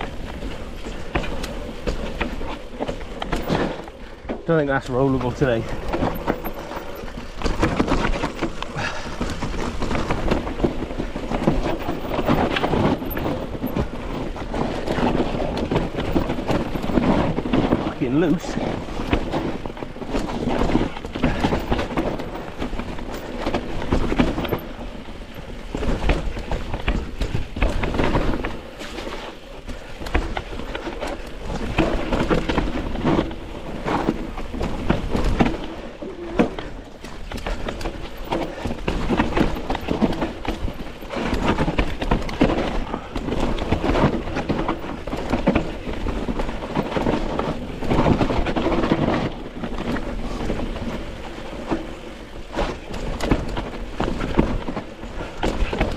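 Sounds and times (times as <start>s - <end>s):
bike rattling: 0.0s - 55.9s
tyres crunching over rocks: 0.0s - 55.9s.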